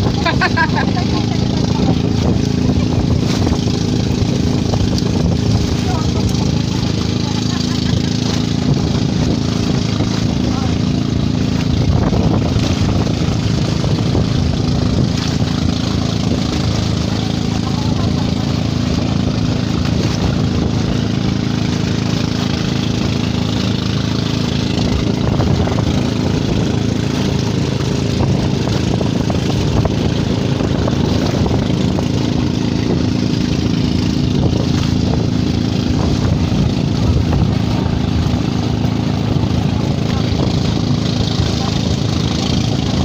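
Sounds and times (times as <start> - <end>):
boat engine running: 0.0 - 43.0
water splashing along hull: 0.0 - 43.0.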